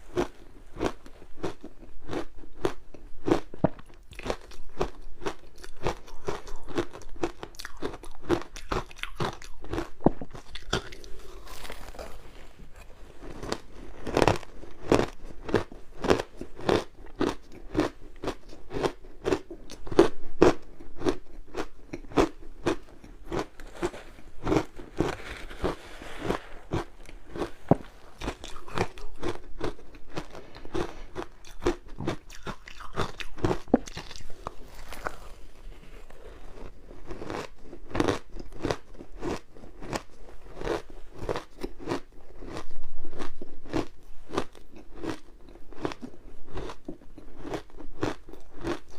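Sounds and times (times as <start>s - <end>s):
crunching and chewing ice: 0.0s - 48.9s.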